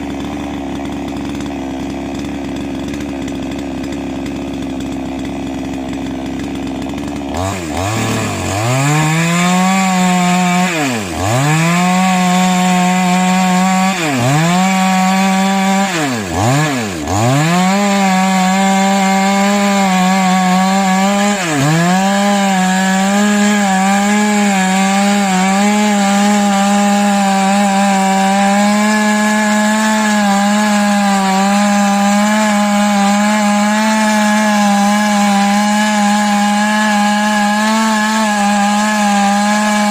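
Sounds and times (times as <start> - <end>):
power tool engine revving: 0.0 - 39.9.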